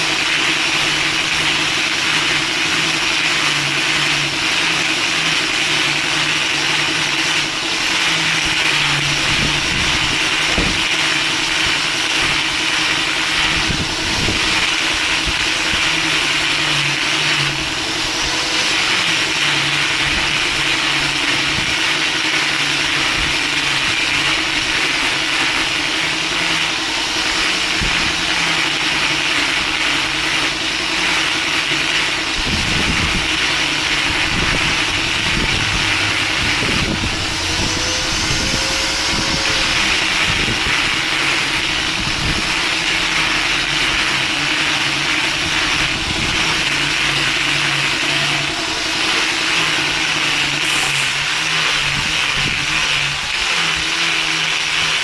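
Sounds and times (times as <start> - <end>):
machine running with hum: 0.0 - 55.0.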